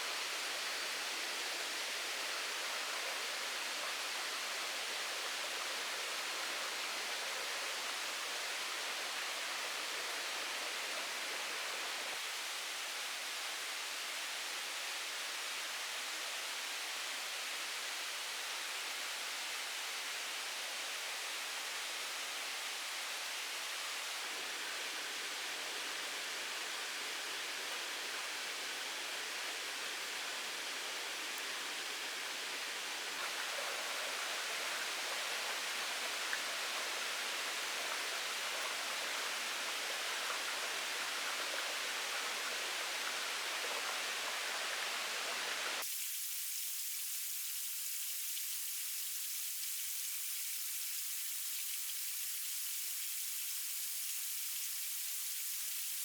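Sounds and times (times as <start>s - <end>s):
rushing water hiss: 0.0s - 56.0s.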